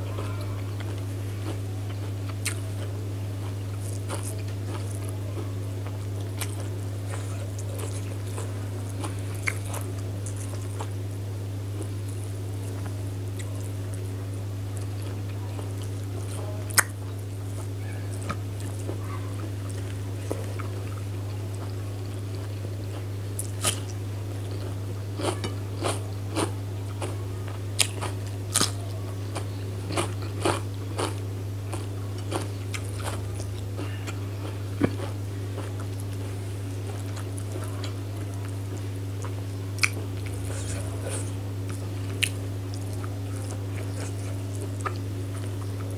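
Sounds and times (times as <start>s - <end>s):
biting and chewing food: 0.0s - 11.0s, 14.7s - 45.9s
steady low hum: 0.0s - 45.9s.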